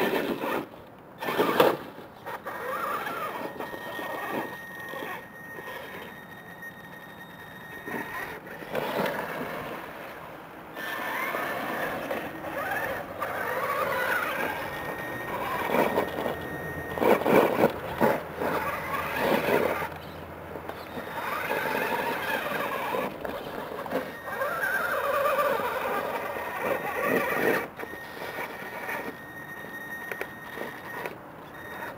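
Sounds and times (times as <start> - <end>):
tires scrabbling on stone: 0.0 - 6.1, 7.7 - 31.9
rc truck motors whining: 0.0 - 31.9.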